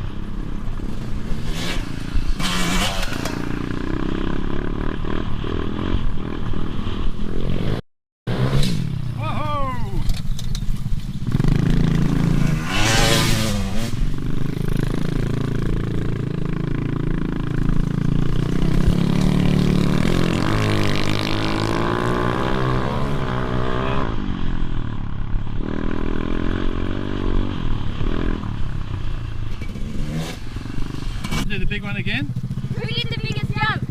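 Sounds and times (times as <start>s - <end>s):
motorbike engine revving: 0.0s - 9.6s, 10.8s - 33.9s.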